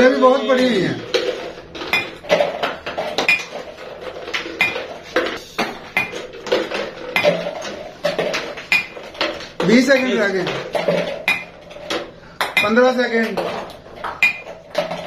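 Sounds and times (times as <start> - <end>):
ping pong balls bouncing: 0.0 - 15.0.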